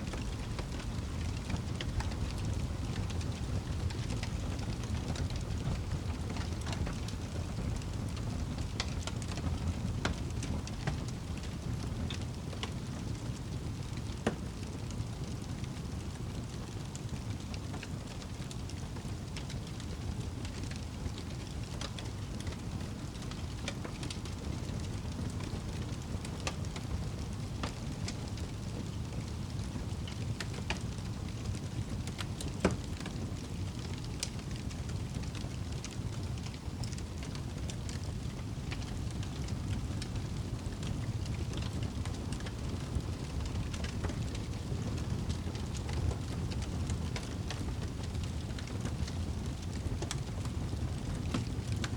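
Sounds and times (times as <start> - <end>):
campfire crackling and popping: 0.1 - 51.9.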